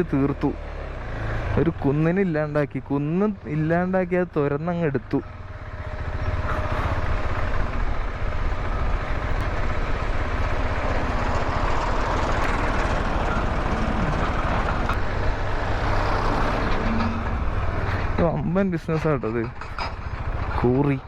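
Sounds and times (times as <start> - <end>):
motorcycle engine rumble: 0.0 - 21.0
wind and road noise: 0.0 - 21.0.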